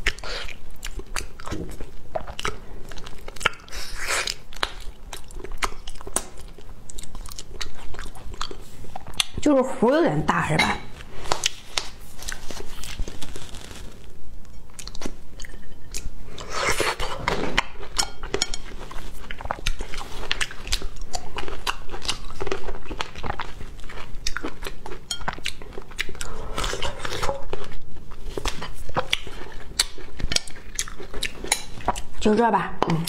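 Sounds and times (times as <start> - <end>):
chewing and biting cherries: 0.0 - 9.5, 11.0 - 13.8, 14.7 - 32.3.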